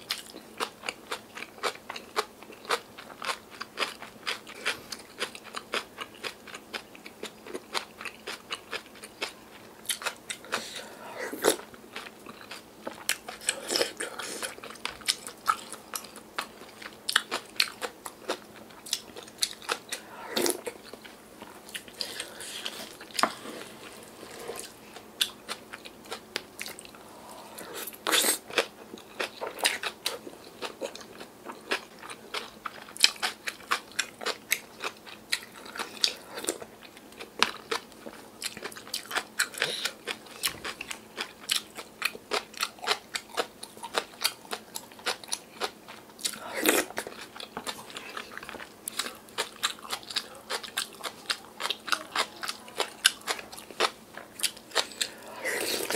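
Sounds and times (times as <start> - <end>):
close chewing and crunching: 0.0 - 55.9.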